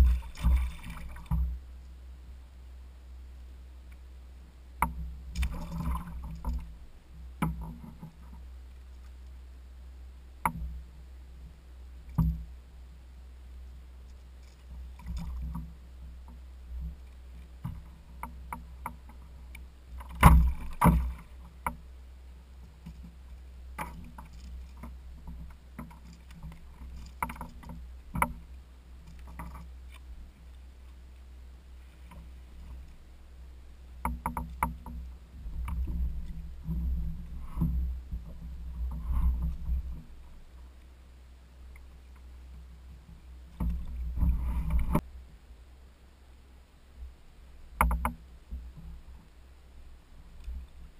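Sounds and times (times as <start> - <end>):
low steady rumble: 0.0 - 50.9.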